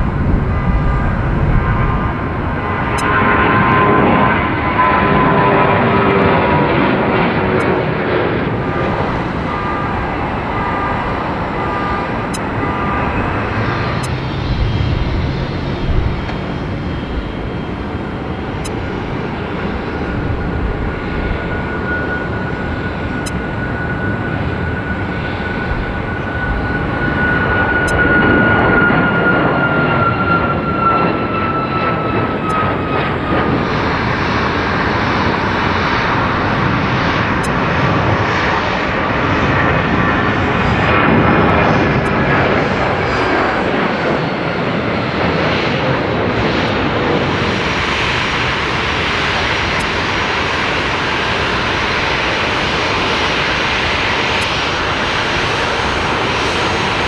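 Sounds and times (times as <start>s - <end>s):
jet engines whining: 0.0s - 7.6s, 8.2s - 57.0s.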